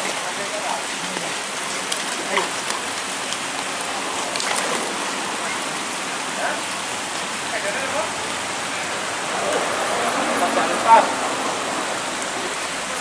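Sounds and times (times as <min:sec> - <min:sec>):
water hissing: 0:01.2 - 0:13.0.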